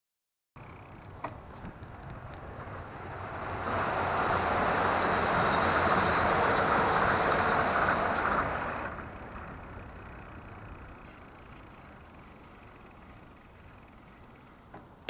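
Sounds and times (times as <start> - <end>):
vehicle passing close by: 1.4 - 13.6.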